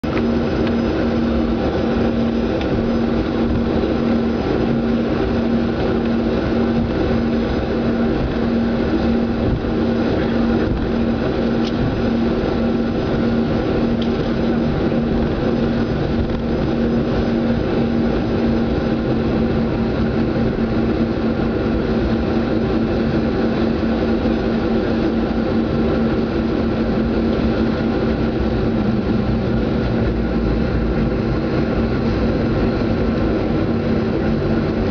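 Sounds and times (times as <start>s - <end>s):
jet cabin engine drone: 0.0s - 34.9s.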